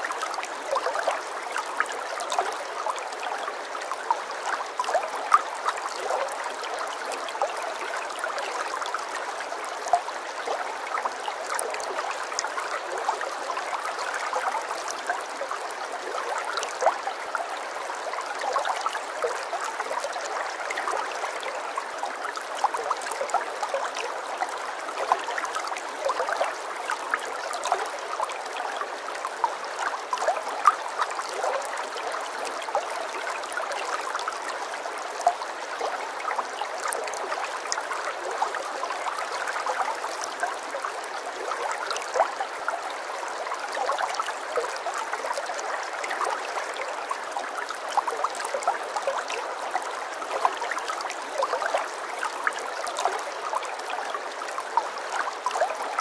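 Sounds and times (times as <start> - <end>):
stream water trickling and gurgling: 0.0 - 56.0.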